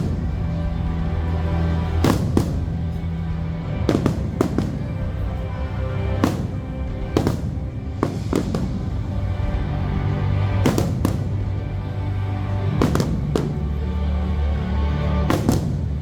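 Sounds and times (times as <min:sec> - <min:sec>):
fireworks bursting: 0:00.0 - 0:13.8, 0:15.2 - 0:16.0
music with low notes: 0:00.0 - 0:16.0.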